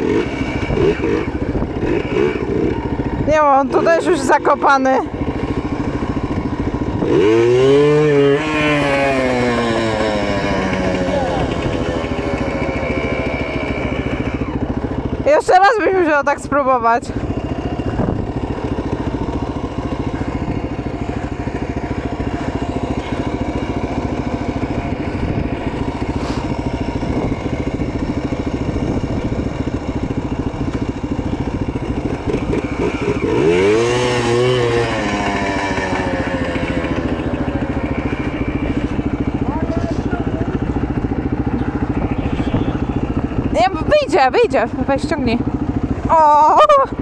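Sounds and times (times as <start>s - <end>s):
quad engine idling: 0.0s - 47.0s.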